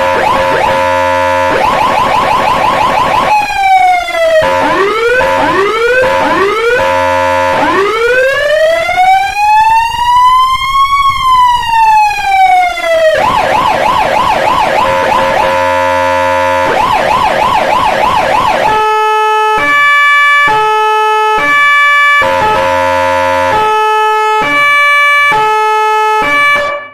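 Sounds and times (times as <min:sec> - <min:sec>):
siren horn blast: 0:00.0 - 0:10.4, 0:11.0 - 0:26.9
electronic siren: 0:00.0 - 0:26.9.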